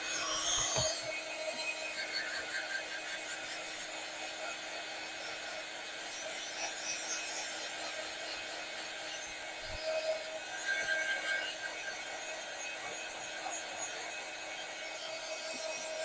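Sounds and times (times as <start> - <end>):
heat tool blowing air: 0.0 - 16.0.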